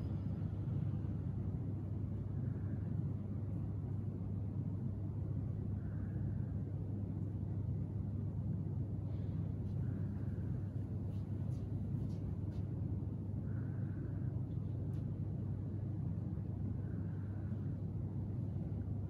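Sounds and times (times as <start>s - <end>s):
low room hum and rumble: 0.0s - 19.0s.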